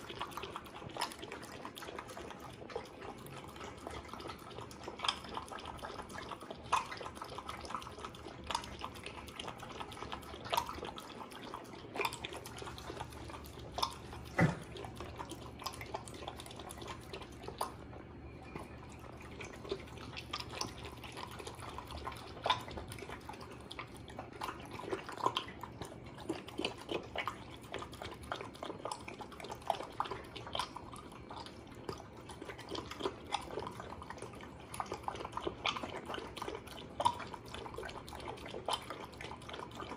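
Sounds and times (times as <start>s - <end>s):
dog lapping and chewing food: 0.0s - 39.9s.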